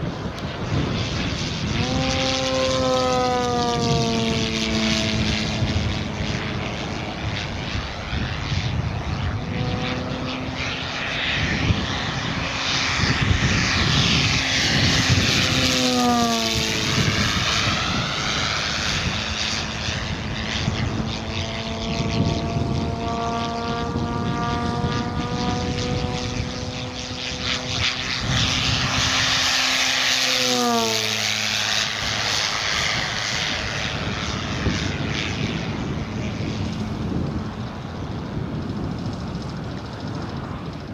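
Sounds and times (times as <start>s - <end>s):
model plane propeller passing: 0.0s - 40.9s.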